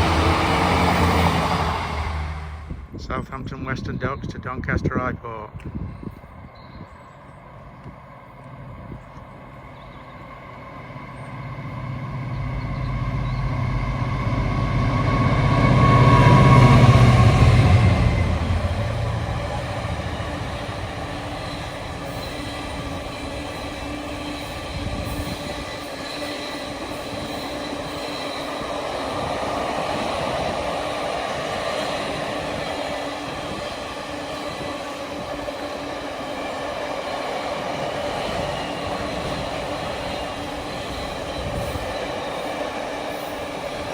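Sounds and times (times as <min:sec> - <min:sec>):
diesel locomotive engine: 0:00.0 - 0:43.9.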